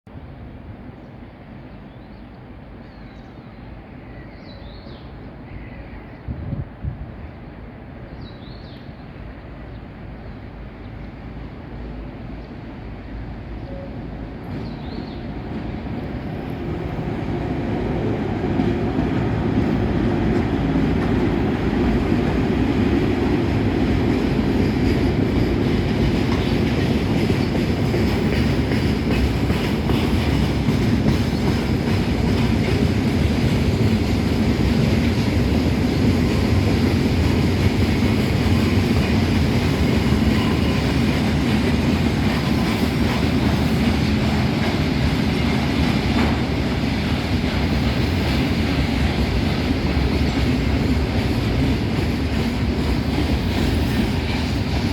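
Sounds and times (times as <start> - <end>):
freight train rumbling: 0.1 - 54.9.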